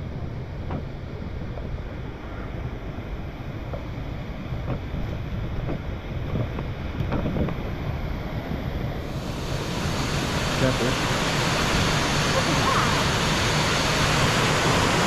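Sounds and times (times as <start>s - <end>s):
wind buffeting microphone: 0.0s - 15.0s
rushing water: 1.8s - 15.0s.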